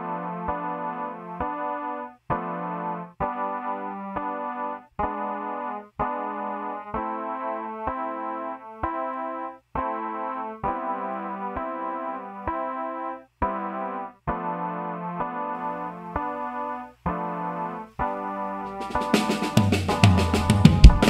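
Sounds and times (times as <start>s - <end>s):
electric piano chords: 0.0s - 21.0s.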